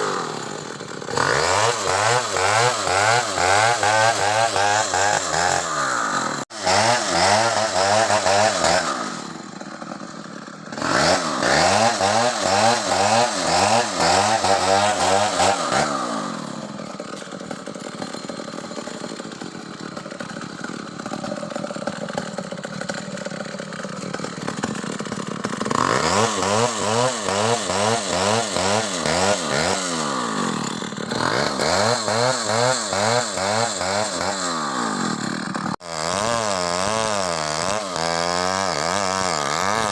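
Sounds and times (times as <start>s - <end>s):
chainsaw cutting palm trunk: 0.0s - 39.9s.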